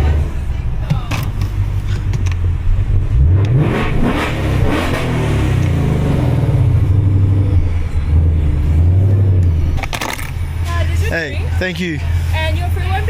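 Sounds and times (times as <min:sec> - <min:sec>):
car exhaust rumble and rev: 0:00.0 - 0:13.0.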